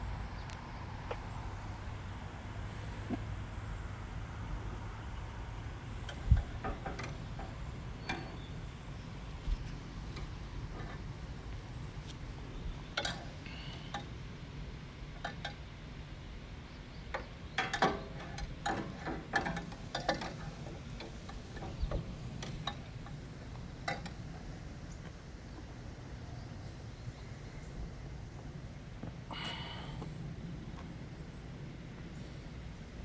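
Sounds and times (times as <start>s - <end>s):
low steady rumble: 0.0s - 33.0s.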